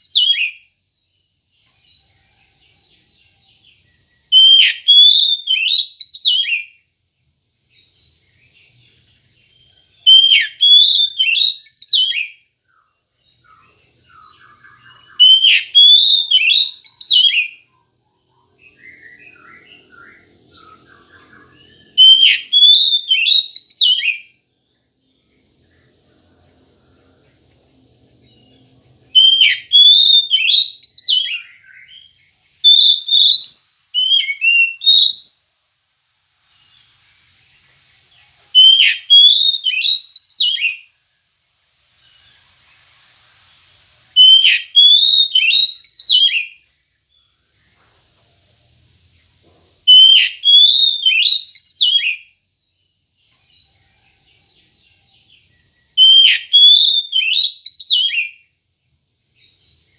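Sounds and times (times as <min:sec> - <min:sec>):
bird singing whistled notes: 0:00.0 - 0:35.6, 0:36.5 - 0:41.3, 0:42.0 - 0:47.8, 0:49.0 - 0:59.9.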